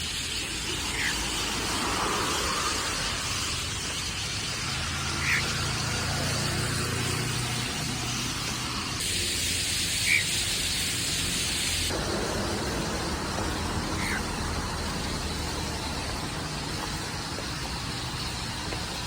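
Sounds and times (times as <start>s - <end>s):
bird chirp: 0.0s - 9.0s, 9.8s - 10.9s, 13.1s - 19.0s
city street traffic: 0.0s - 19.0s
vehicle engine passing: 0.8s - 9.0s, 10.9s - 19.0s.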